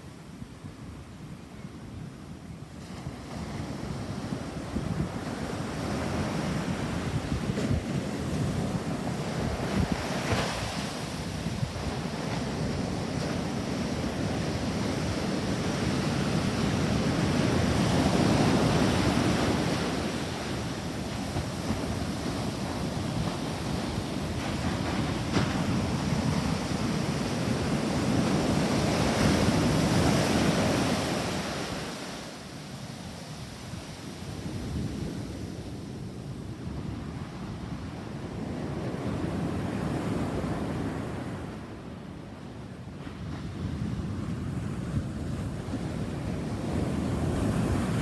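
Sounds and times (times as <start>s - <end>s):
wind on microphone: 0.0s - 48.0s
ocean surf washing onto beach: 2.8s - 48.0s.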